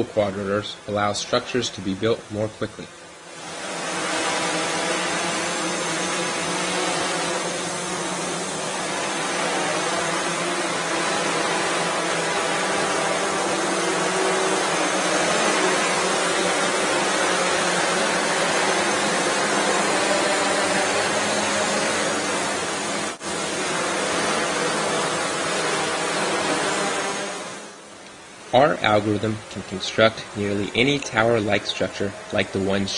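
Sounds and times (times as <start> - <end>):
drone propellers whirring: 0.0 - 32.9.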